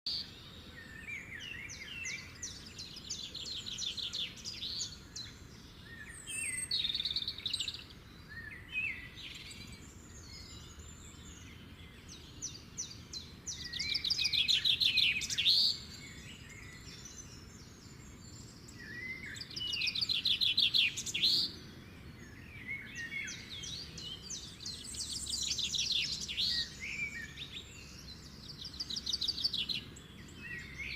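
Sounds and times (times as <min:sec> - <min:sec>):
birds chittering trills: 0:00.1 - 0:30.9.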